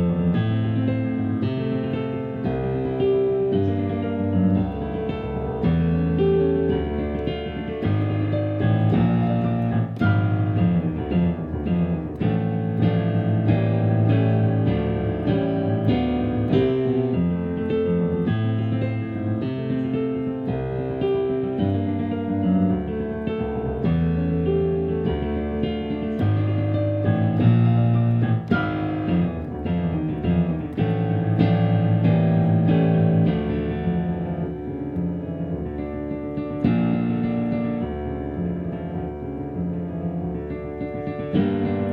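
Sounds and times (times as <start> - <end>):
solo piano playing fast passage: 0.0 - 41.9.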